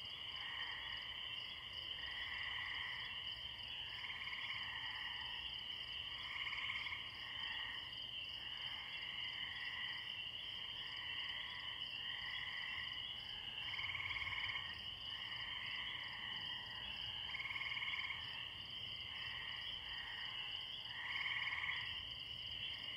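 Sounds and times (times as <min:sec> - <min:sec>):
frogs chorus with trills: 0:00.0 - 0:22.9
tree crickets: 0:00.0 - 0:22.9.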